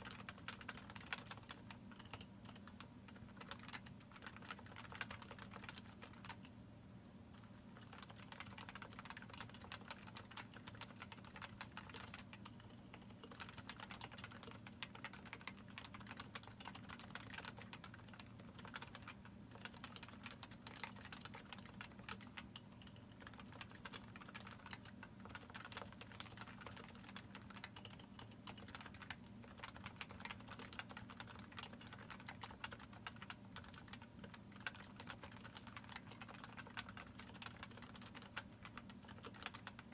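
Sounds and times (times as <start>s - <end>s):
keyboard typing: 0.0s - 6.5s, 7.3s - 39.9s.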